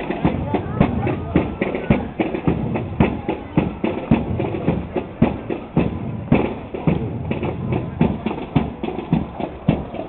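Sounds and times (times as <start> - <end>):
marching band drums: 0.0 - 10.0.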